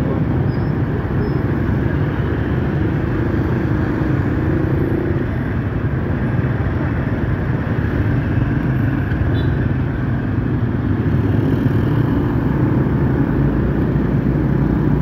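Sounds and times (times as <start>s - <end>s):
motorbike and car engines: 0.0s - 15.0s.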